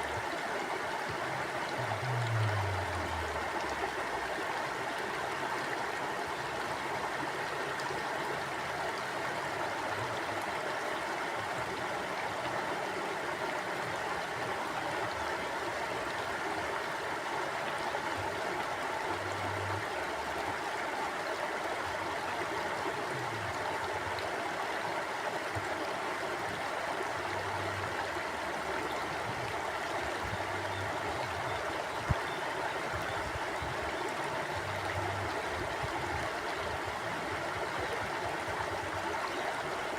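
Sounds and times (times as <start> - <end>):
mountain stream flowing: 0.0 - 39.9.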